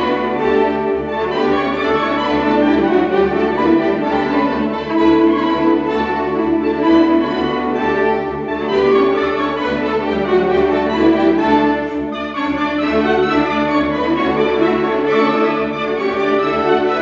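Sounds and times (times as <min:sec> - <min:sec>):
saxophone ensemble playing chords: 0:00.0 - 0:17.0.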